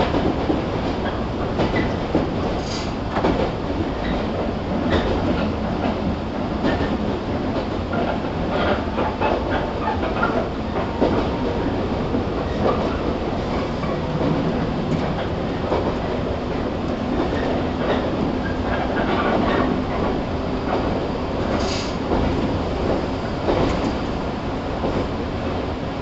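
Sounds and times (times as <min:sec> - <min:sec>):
clickety-clack of rail joints: 0:00.0 - 0:26.0
train wheels rumbling: 0:00.0 - 0:26.0.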